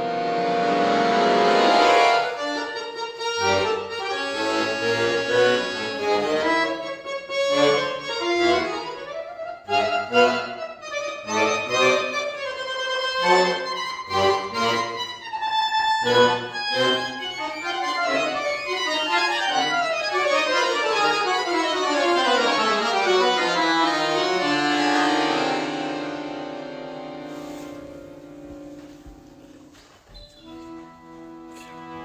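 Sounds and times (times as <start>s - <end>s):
solo accordion playing: 0.0s - 32.0s.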